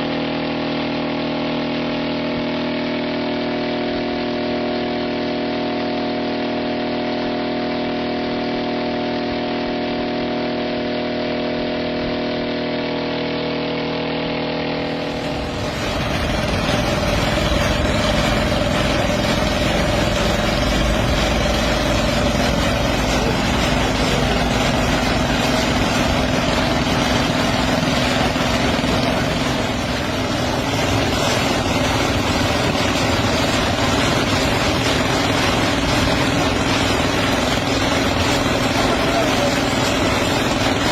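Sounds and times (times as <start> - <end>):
helicopter engine running: 0.0 - 40.9.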